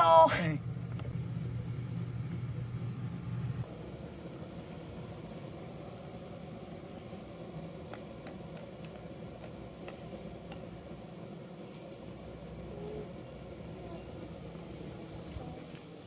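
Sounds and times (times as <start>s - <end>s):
thin high hum: 0.0s - 16.0s.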